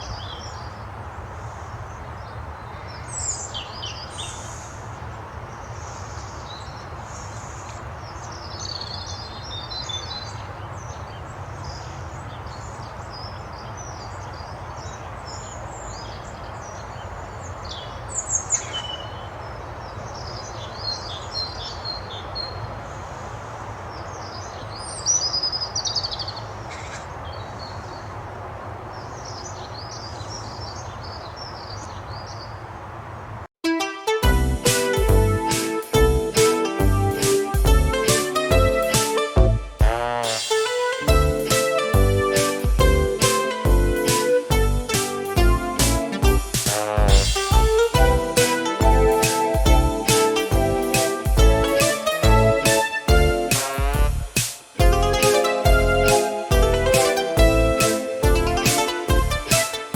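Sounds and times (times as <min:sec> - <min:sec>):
birds chirping: 0:00.0 - 0:28.2, 0:28.9 - 0:32.7, 0:34.3 - 0:59.9
outdoor background noise: 0:00.0 - 0:33.6, 0:34.3 - 0:59.9.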